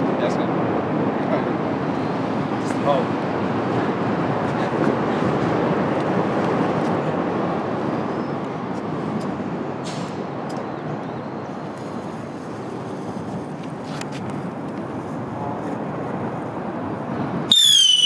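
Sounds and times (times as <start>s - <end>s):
outdoor background rumble: 0.0s - 18.0s.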